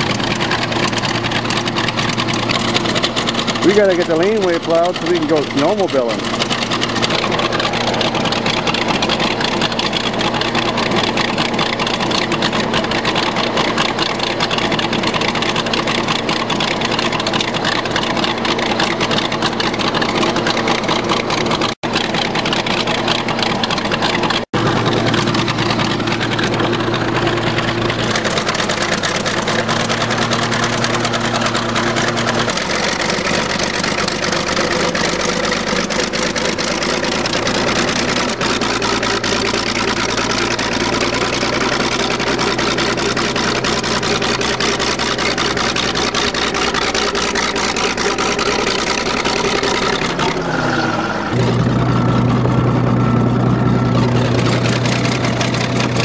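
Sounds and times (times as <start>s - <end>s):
bulldozer engine running under load: 0.0s - 56.0s.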